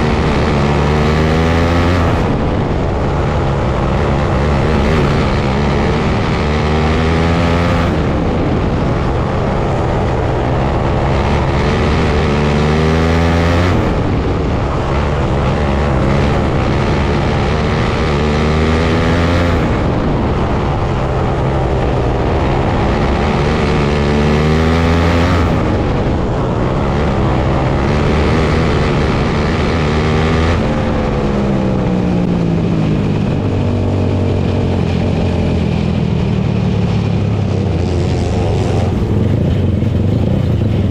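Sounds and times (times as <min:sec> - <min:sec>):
kart engines racing: 0:00.0 - 0:40.9.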